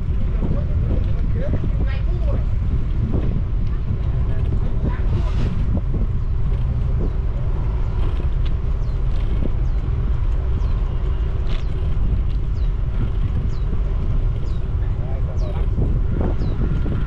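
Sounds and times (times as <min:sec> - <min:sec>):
city traffic: 0:00.0 - 0:17.0
motorbike engine rumble: 0:00.0 - 0:17.0.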